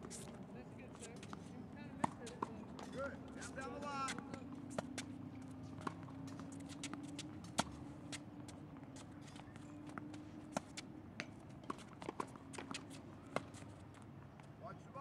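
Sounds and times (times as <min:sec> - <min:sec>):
tennis balls struck and bouncing: 0:00.0 - 0:14.5
footsteps on court: 0:00.0 - 0:14.6.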